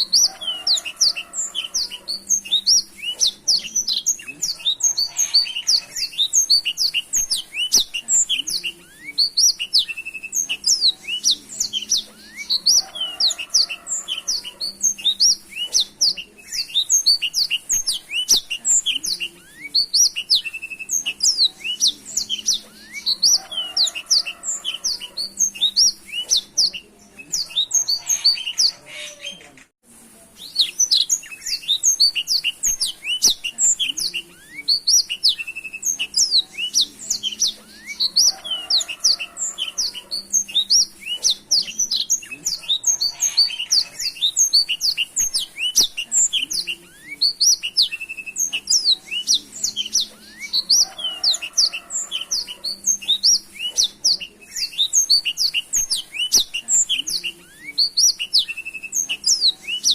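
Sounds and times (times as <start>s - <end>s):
canary singing trills: 0.0s - 29.7s, 30.3s - 59.9s.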